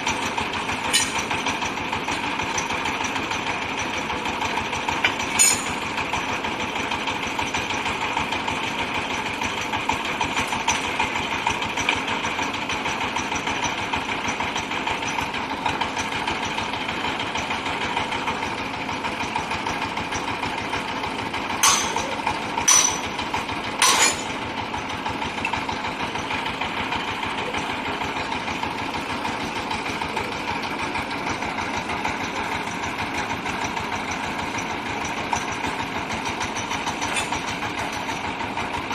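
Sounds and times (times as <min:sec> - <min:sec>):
drilling rig running: 0:00.0 - 0:38.9.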